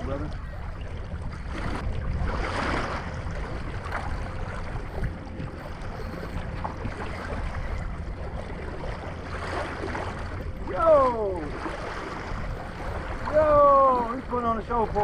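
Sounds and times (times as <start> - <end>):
water splashing against kayak hull: 0.0 - 15.0
wind rumble on microphone: 0.0 - 15.0.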